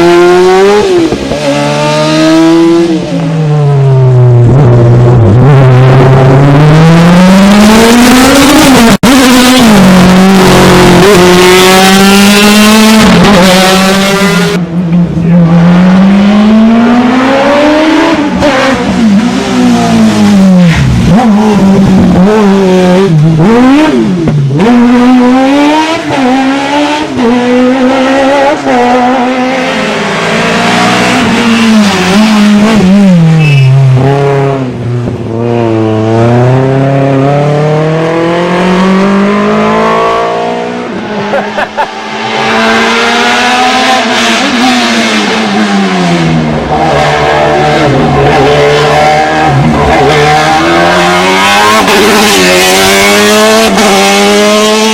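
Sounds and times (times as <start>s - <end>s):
racing car engine revving: 0.0s - 54.9s.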